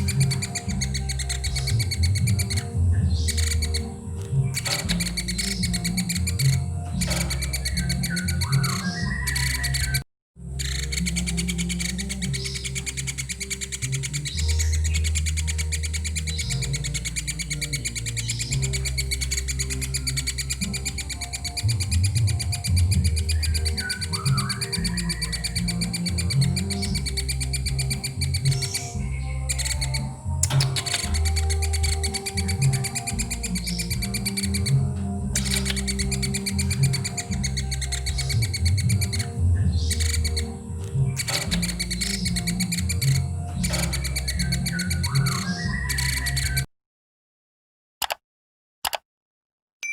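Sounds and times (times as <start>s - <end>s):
steady low tones: 0.0s - 45.5s
low background music: 0.0s - 46.7s
woodpecker buzzing chatter: 0.0s - 46.7s.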